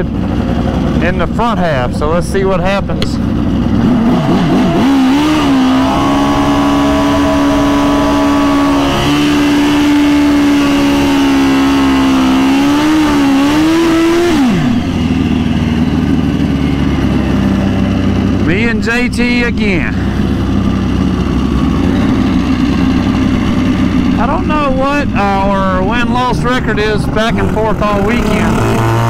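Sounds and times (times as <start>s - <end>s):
motorcycle engine revving high: 0.0s - 29.0s.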